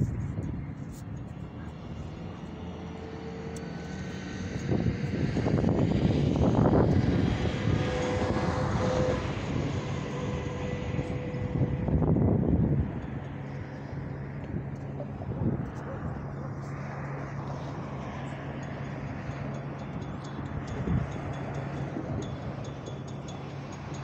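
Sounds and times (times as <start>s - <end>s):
distant jet aircraft rumble: 0.0s - 24.0s.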